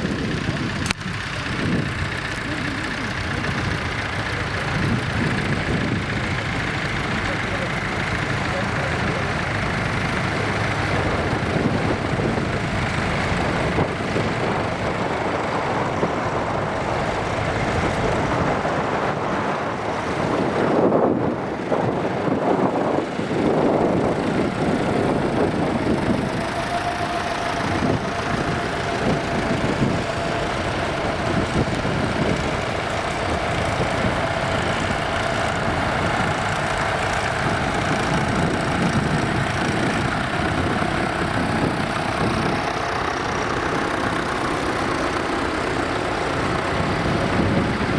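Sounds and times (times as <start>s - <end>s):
tractor engines running: 0.0s - 47.9s.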